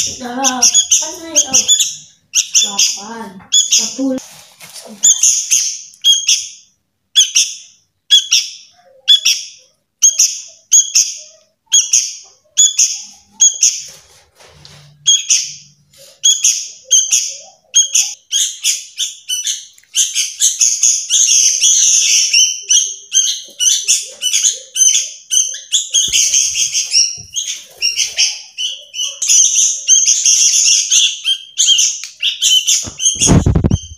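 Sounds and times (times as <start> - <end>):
fledglings begging calls: 0.0 - 4.2, 5.1 - 6.6, 7.2 - 13.9, 16.2 - 33.9.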